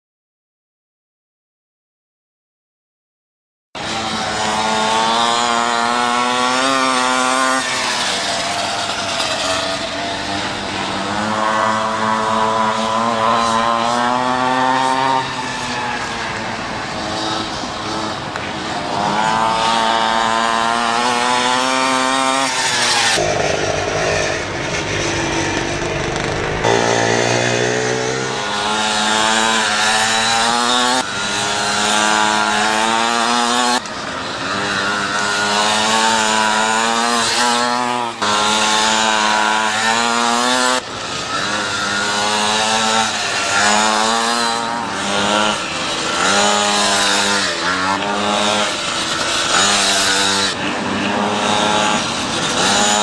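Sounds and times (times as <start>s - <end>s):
pocket bike engine revving: 3.8s - 53.0s
second bike engine: 3.8s - 53.0s.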